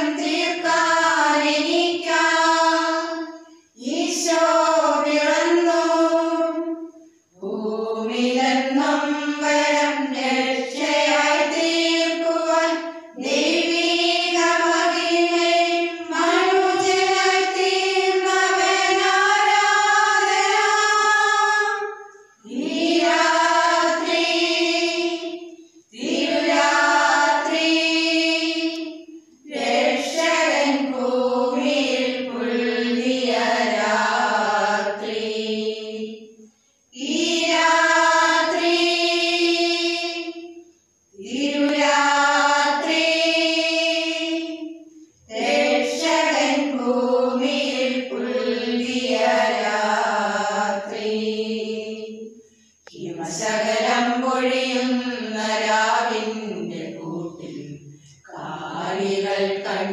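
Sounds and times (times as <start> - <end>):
women singing unaccompanied: 0.0 - 59.9.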